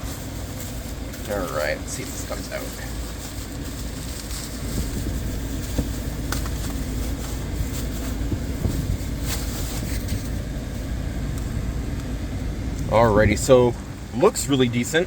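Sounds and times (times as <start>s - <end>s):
small car idling: 0.0s - 15.0s.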